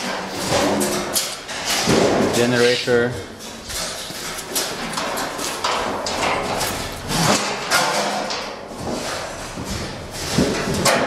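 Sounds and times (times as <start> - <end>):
objects knocking and clattering: 0.0 - 11.0.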